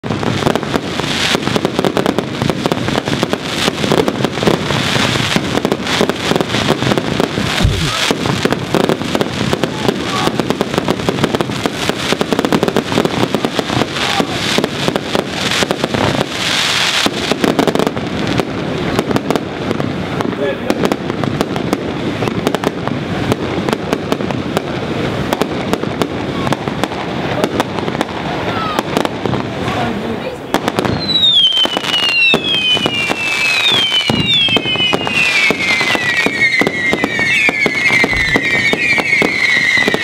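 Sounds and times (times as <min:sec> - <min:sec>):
fireworks rapid bangs: 0:00.0 - 0:40.0.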